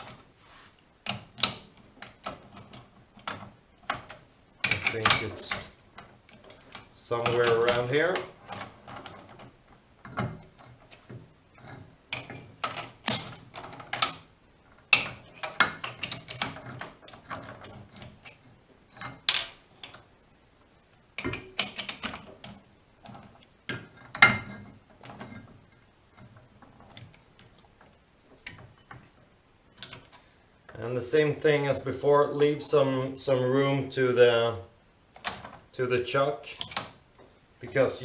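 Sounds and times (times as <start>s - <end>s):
metallic clicks and clanks: 1.0s - 20.1s, 21.1s - 30.8s, 35.1s - 35.8s, 36.4s - 37.9s.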